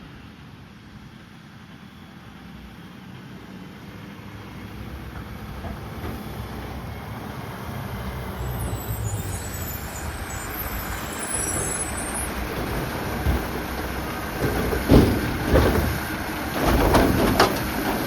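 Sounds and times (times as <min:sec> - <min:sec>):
garbage truck engine rumbling: 0:01.8 - 0:18.0.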